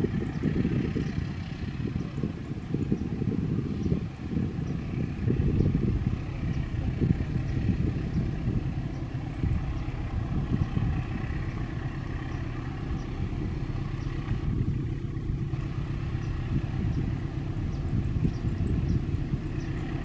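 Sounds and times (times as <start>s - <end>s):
locomotive engine rumble: 0.0s - 20.0s.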